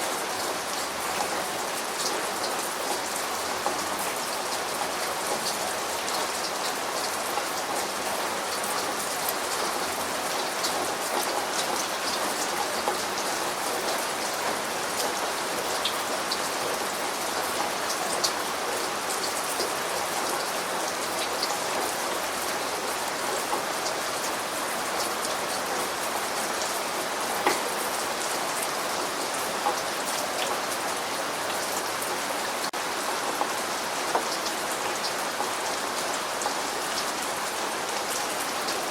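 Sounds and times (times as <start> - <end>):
raindrops ticking on a surface: 0.0 - 38.9
steady rain: 0.0 - 38.9.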